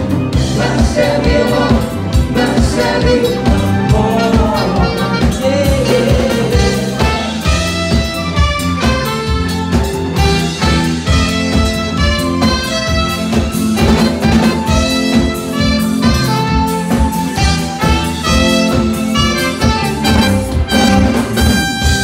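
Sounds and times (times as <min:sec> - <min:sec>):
drum kit beat: 0:00.0 - 0:22.0
live band playing dance music: 0:00.0 - 0:22.0
saxophone: 0:00.0 - 0:22.0
trumpet: 0:00.0 - 0:22.0.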